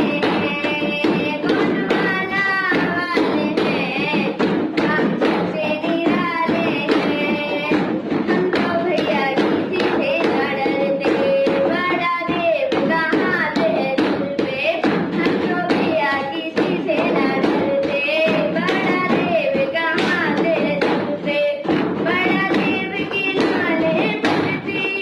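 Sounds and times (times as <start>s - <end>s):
rhythmic tapping beat: 0.0s - 25.0s.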